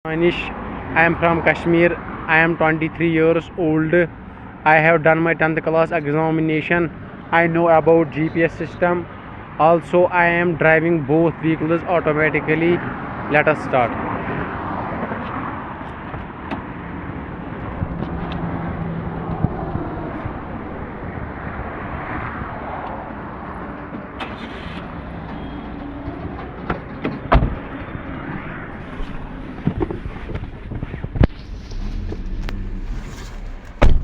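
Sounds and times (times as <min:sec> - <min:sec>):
car engine and road noise: 0:00.1 - 0:34.0.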